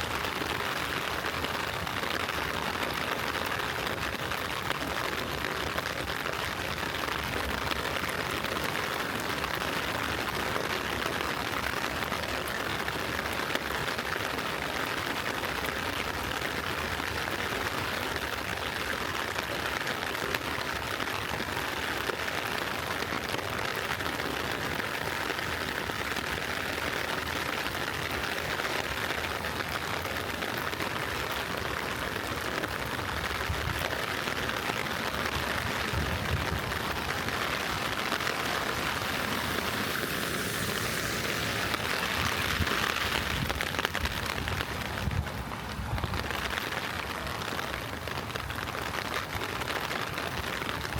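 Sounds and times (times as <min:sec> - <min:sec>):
gentle rain falling: 0:00.0 - 0:50.9.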